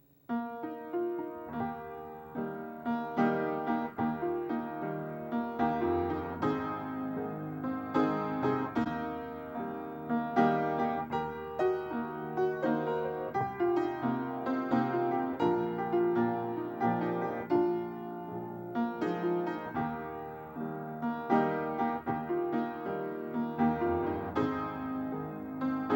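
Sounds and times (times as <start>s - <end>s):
slow solo piano: 0.0s - 25.9s.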